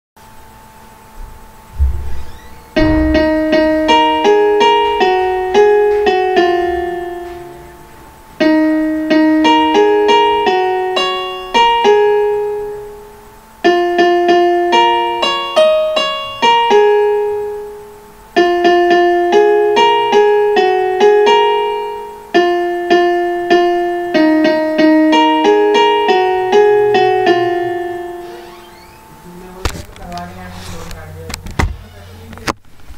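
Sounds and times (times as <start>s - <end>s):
piano app melody: 0.6s - 29.7s.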